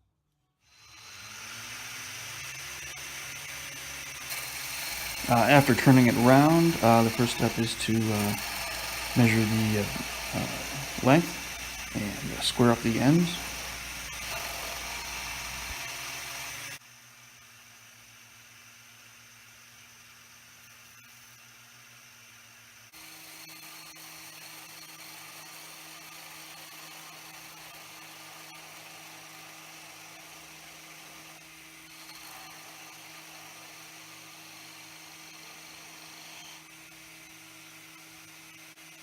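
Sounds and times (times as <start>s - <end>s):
wood lathe motor hum: 0.7s - 16.8s, 21.8s - 39.0s.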